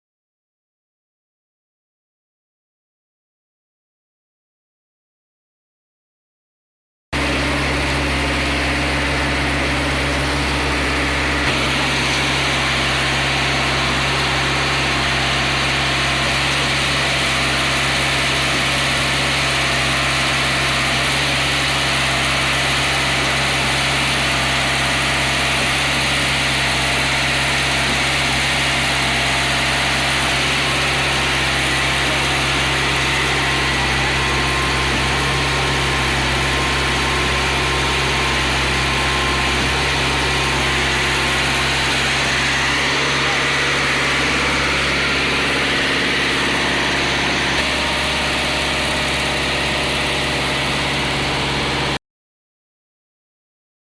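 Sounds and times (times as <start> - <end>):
concrete mixer engine running: 7.2 - 52.0.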